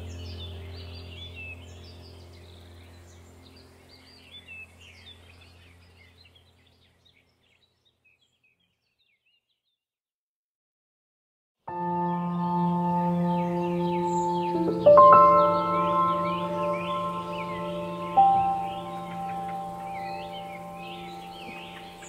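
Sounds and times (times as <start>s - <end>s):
low steady hum: 0.0s - 7.5s, 11.7s - 22.0s
birds chirping: 0.0s - 9.8s, 11.7s - 22.0s.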